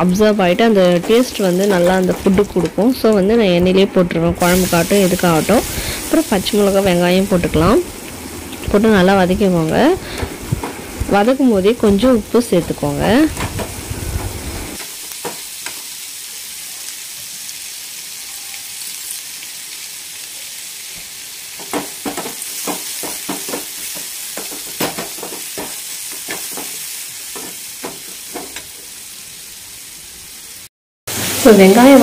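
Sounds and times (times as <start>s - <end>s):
onions sizzling in hot oil: 0.0s - 3.7s, 4.4s - 32.0s.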